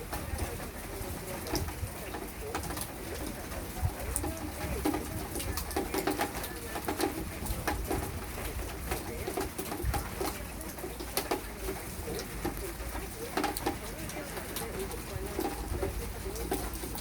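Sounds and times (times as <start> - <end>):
rain dripping and pattering: 0.0 - 17.0.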